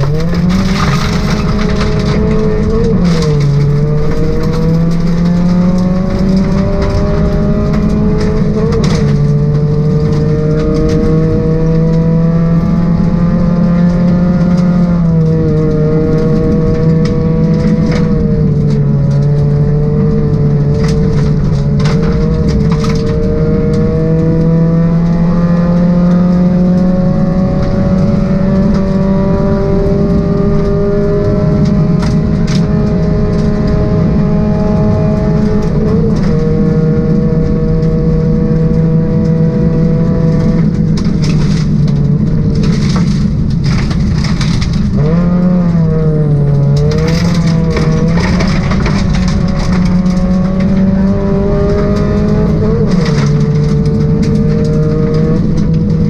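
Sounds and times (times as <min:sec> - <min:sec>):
gravel hitting car: 0:00.0 - 0:56.0
rally car engine running hard: 0:00.0 - 0:56.0
tyre and road rumble: 0:00.0 - 0:56.0.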